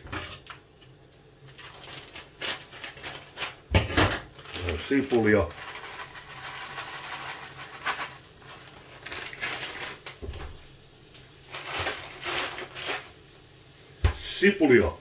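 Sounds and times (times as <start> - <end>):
plastic bag crinkling: 0.0 - 13.2
onion pieces pattering into pan: 0.0 - 14.4.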